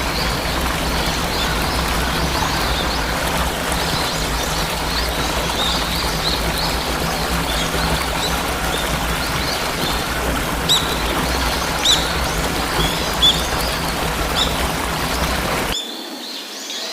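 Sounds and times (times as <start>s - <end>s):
waterfall rushing: 0.0s - 15.8s
small birds chirping: 0.0s - 16.9s.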